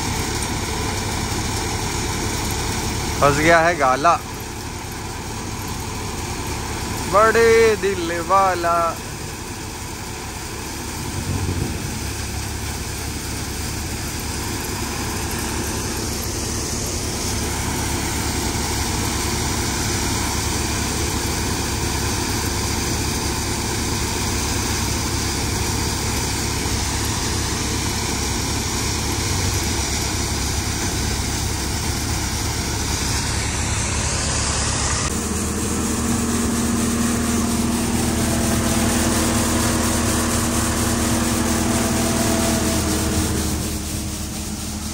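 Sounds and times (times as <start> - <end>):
threshing machine running: 0.0 - 44.9
tractor engine running: 0.0 - 44.9.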